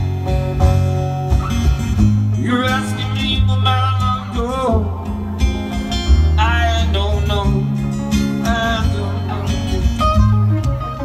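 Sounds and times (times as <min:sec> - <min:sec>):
picked acoustic guitar lead: 0:00.0 - 0:11.0
strummed acoustic guitar chords: 0:00.0 - 0:11.0.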